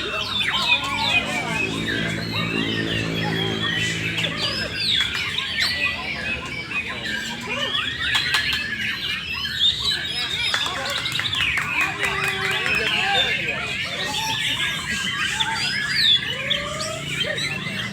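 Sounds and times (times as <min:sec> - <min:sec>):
birds singing in chorus: 0:00.0 - 0:17.9.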